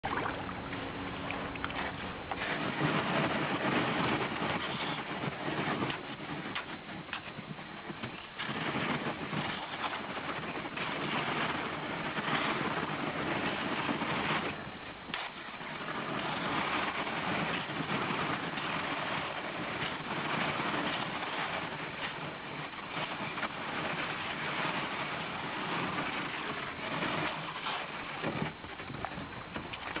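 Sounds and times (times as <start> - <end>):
ice crackling against kayak hull: 0.0 - 30.0.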